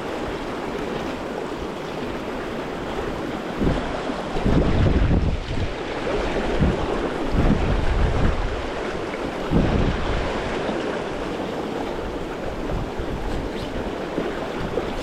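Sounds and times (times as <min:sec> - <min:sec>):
river current rushing: 0:00.0 - 0:15.0
wind buffeting microphone: 0:00.0 - 0:15.0.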